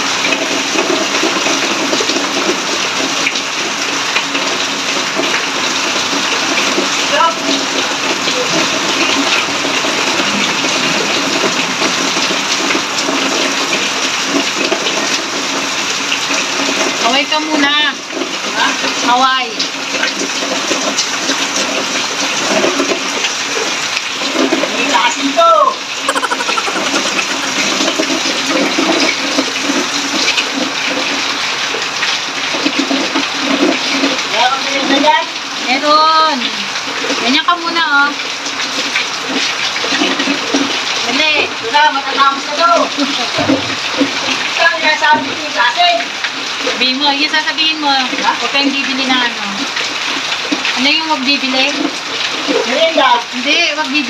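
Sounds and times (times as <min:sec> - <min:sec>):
heavy rain pouring and splashing: 0:00.0 - 0:54.0.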